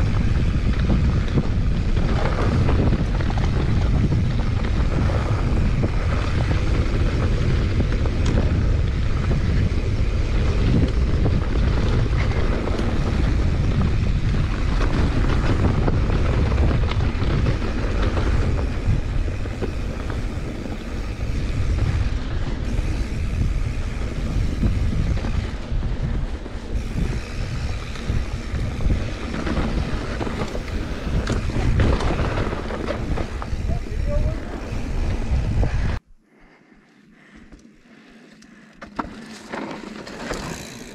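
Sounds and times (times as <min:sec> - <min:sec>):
bike clicks and rattles: 0:00.0 - 0:36.0, 0:36.8 - 0:40.9
tyres rolling over loose dirt: 0:00.0 - 0:36.0, 0:38.4 - 0:40.9
wind buffeting microphone: 0:00.0 - 0:36.1.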